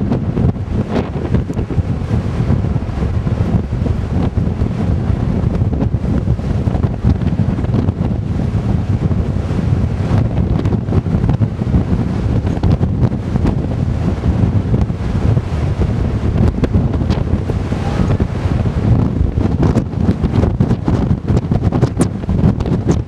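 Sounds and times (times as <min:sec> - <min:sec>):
strong wind buffeting microphone: 0:00.0 - 0:23.0
surf crashing: 0:00.0 - 0:23.0.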